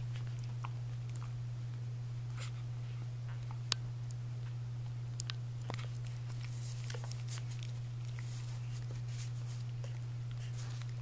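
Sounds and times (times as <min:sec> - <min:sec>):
small wet clicks and smacks: 0:00.0 - 0:02.6, 0:03.2 - 0:11.0
puppies suckling: 0:00.0 - 0:11.0
steady low hum: 0:00.0 - 0:11.0.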